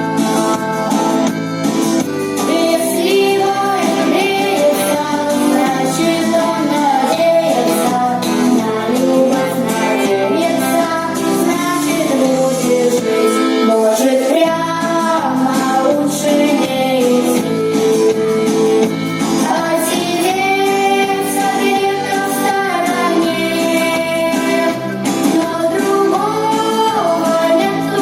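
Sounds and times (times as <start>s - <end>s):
instrumental accompaniment: 0.0s - 28.0s
female vocal group singing: 2.4s - 17.8s, 19.4s - 28.0s.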